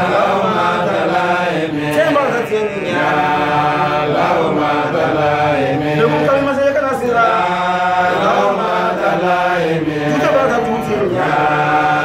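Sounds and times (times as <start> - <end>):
men chanting religious chant: 0.0 - 12.0.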